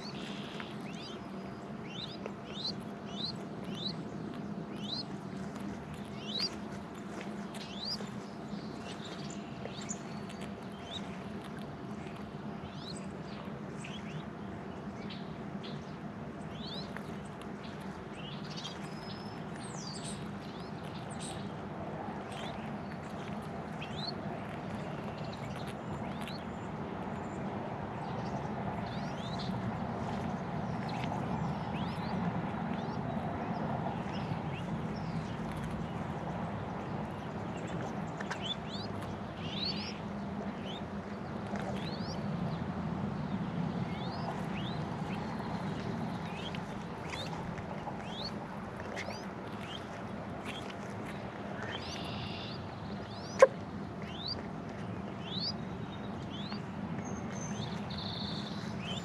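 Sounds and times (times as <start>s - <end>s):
songbirds chirping: 0.0s - 59.0s
steady background hum: 0.0s - 59.0s.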